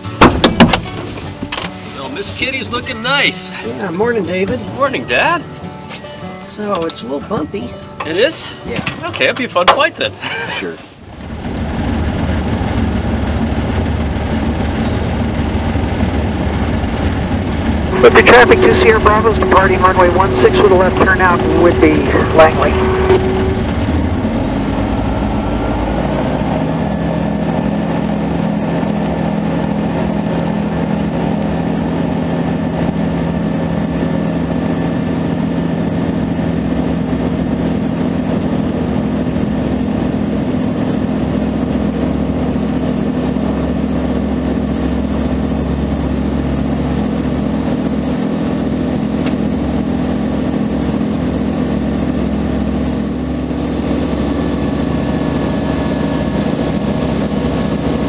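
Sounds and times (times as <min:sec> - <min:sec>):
aircraft engine and propeller: 0:00.0 - 0:10.0, 0:11.0 - 0:58.0.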